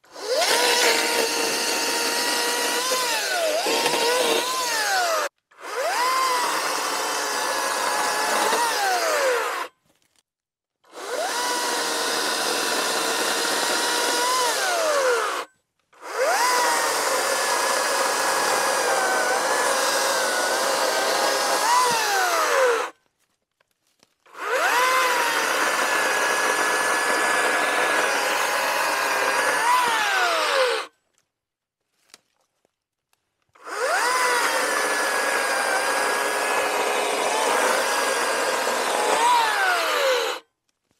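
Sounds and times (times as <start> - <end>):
electric chainsaw cutting wood: 0.0 - 9.7, 10.9 - 23.0, 24.3 - 30.9, 33.6 - 40.5.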